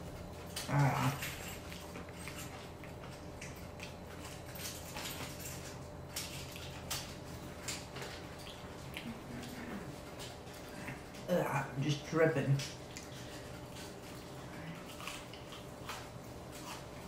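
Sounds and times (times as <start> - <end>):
faint steady hum: 0.0 - 17.0
chewing and mouth sounds: 0.1 - 17.0.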